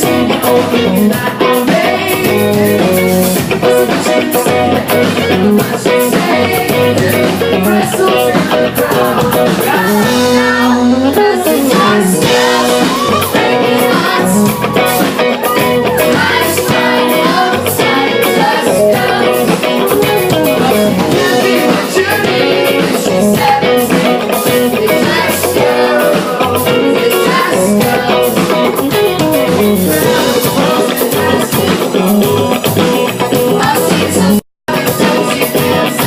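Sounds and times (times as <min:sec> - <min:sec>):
live pop rock band with singing: 0:00.0 - 0:36.0.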